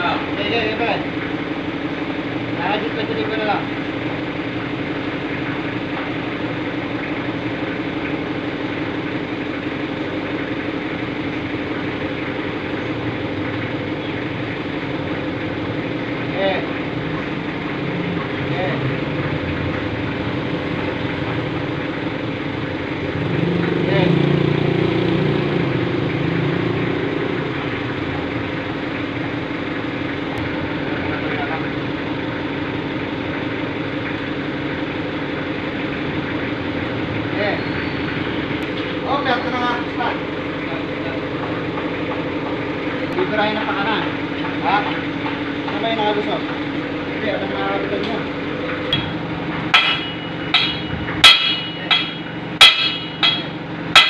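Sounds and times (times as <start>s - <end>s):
machinery humming: 0.0s - 54.0s.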